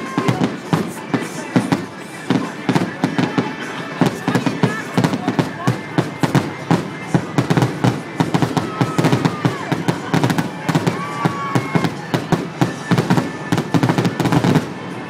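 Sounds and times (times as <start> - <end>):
fireworks bangs and crackles: 0.0 - 15.0
fireworks whistles: 0.0 - 15.0.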